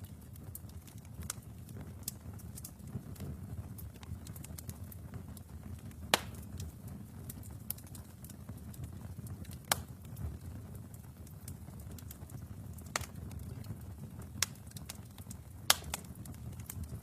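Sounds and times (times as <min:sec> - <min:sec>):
fire rumbling: 0:00.0 - 0:17.0
loud pops from fire: 0:00.0 - 0:17.0
small crackles of fire: 0:00.0 - 0:17.0.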